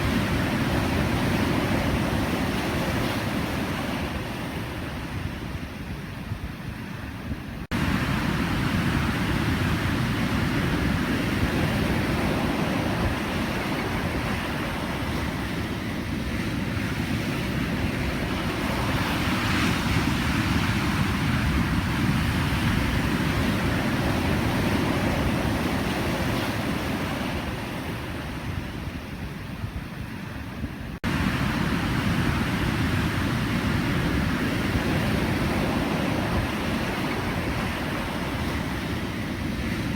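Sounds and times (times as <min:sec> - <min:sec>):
waves breaking: 0:07.7 - 0:39.9.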